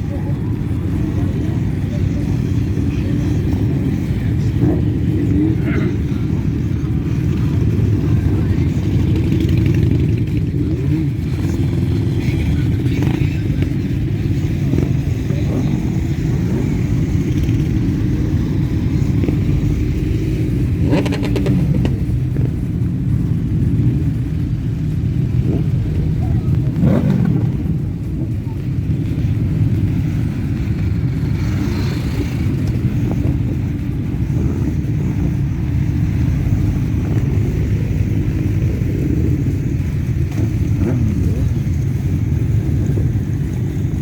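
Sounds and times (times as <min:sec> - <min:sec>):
motorcycle engines rumbling: 0:00.0 - 0:44.0.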